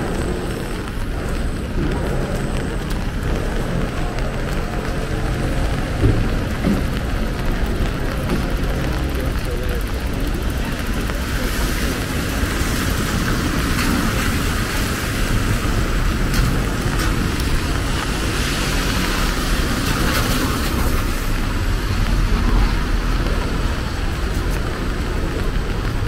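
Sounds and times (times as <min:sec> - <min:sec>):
traffic passing in rain: 0:00.0 - 0:26.0.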